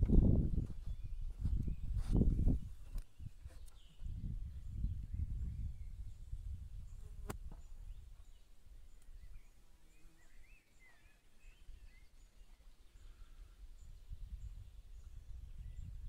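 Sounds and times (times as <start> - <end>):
faint bird chirps: 0.5 - 16.0.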